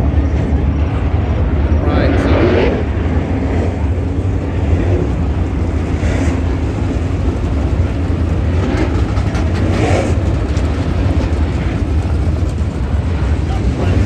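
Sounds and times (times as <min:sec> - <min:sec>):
race car engines rumbling: 0:00.0 - 0:14.0.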